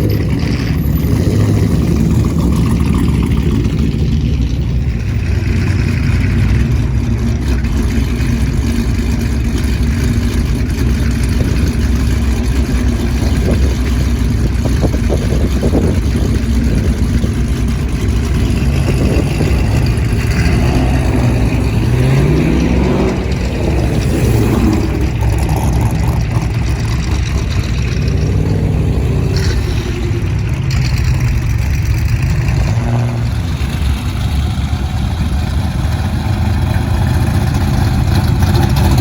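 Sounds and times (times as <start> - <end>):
car engine revving: 0.0 - 39.0
car engines idling: 0.0 - 39.0.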